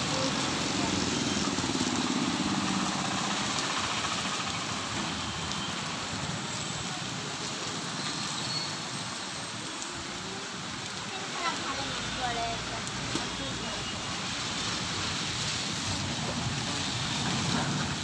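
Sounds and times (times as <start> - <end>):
traffic on wet street: 0.0 - 18.0.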